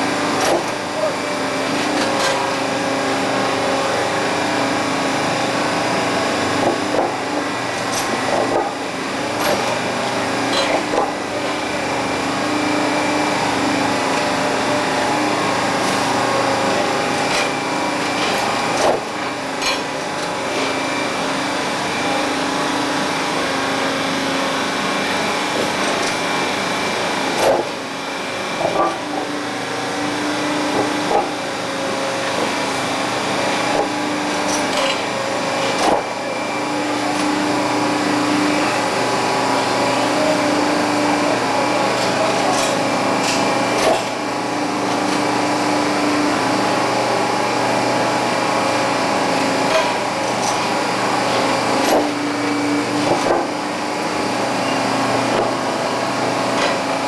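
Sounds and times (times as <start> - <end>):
machine hum: 0.0 - 57.0
tie-replacement machine running: 0.0 - 57.0.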